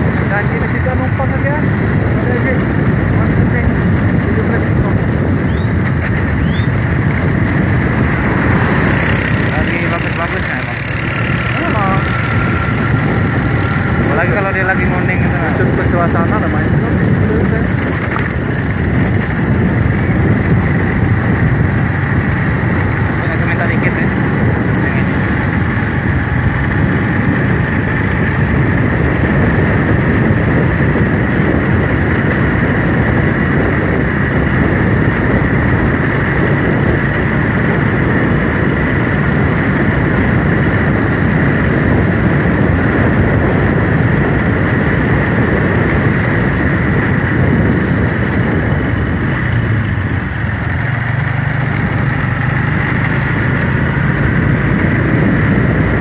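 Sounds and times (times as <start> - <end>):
road and wind noise: 0.0 - 56.0
vehicle engine hum: 0.0 - 56.0.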